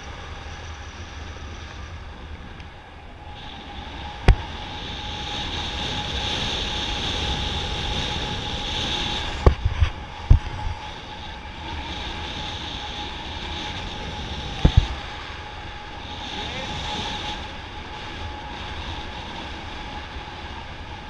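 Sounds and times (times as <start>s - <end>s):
airflow rushing over microphone: 0.0s - 21.0s.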